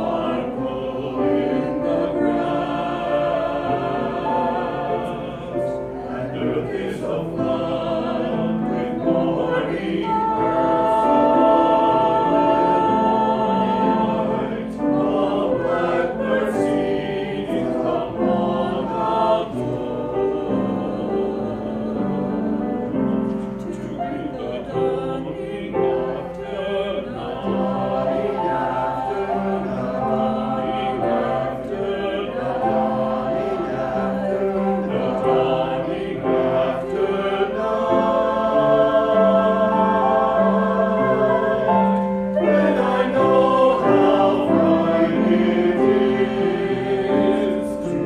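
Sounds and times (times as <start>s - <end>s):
mixed choir singing in harmony: 0.0s - 48.0s.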